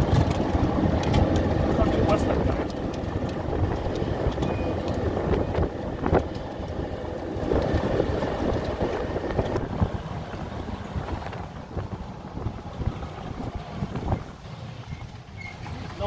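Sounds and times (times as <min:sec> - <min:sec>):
golf cart rolling on concrete: 0:00.0 - 0:16.0
wind buffeting microphone: 0:00.0 - 0:16.0.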